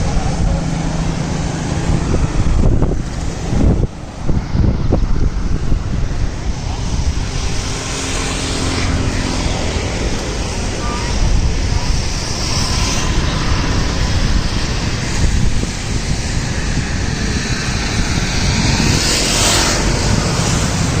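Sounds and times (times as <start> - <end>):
loud low rushing noise: 0.0 - 21.0.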